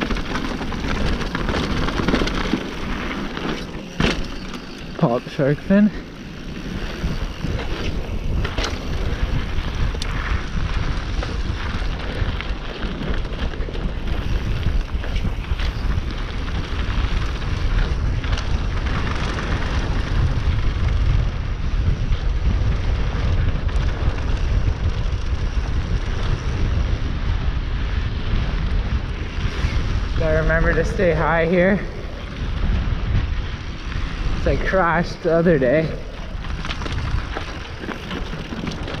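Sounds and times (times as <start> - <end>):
bike clicks and rattles: 0.0 - 39.0
bike tyres rolling on dirt: 0.0 - 39.0
wind noise on microphone: 0.0 - 39.0.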